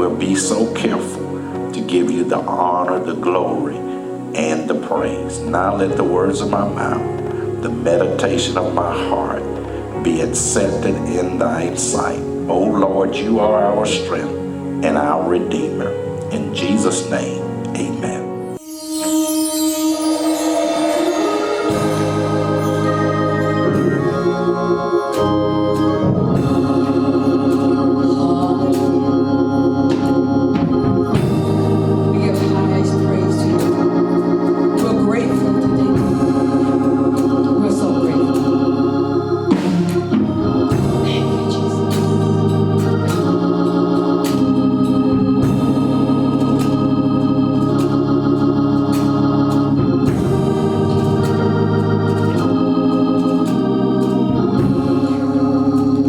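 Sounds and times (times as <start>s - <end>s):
organ playing held chords: 0.0s - 56.0s.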